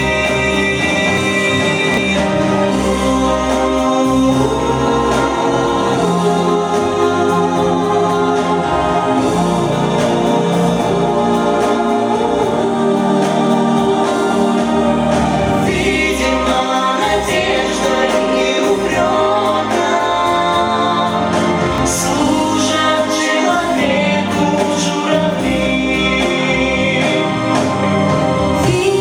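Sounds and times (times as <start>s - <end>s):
choir singing held harmonies: 0.0s - 29.0s.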